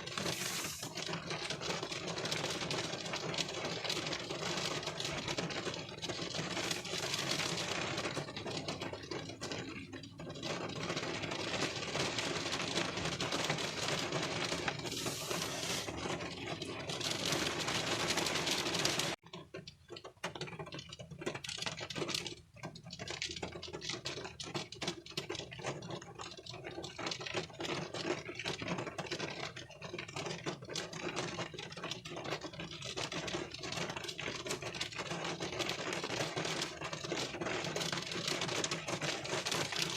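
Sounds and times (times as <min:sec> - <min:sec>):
rain pattering on windshield: 0:00.0 - 0:39.9.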